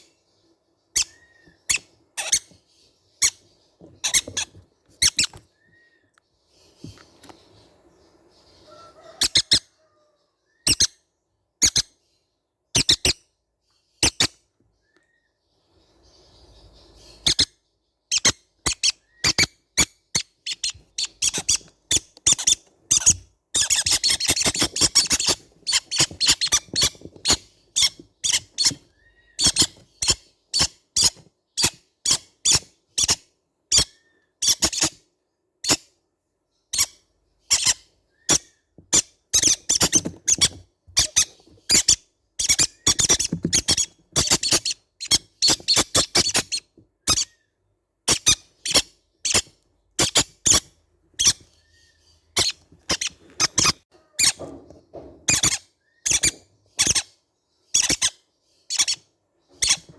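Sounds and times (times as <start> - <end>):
parrot chicks chirping: 0.0 - 12.1, 12.7 - 36.0, 36.6 - 59.9.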